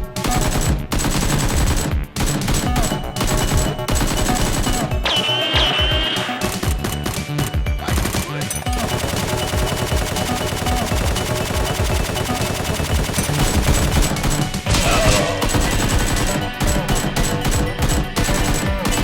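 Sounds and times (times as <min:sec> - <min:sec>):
automatic gunfire: 0:00.0 - 0:06.7, 0:07.9 - 0:19.0
background music: 0:00.0 - 0:19.0.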